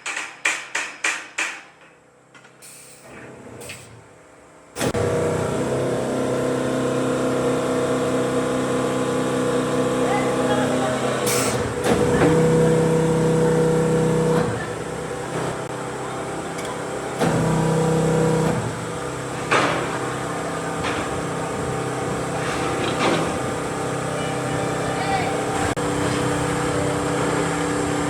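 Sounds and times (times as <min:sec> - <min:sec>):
machine hum: 0:02.9 - 0:28.0.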